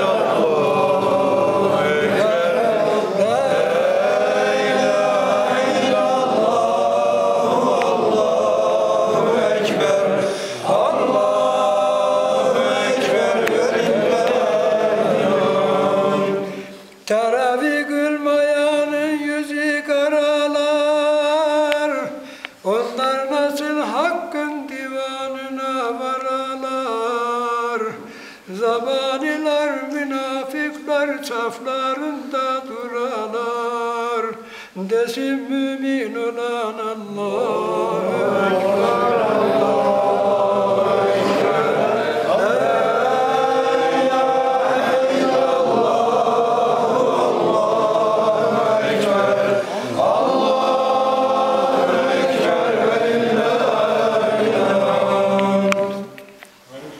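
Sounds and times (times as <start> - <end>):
man singing a hymn: 0.0 - 46.9, 53.4 - 56.2.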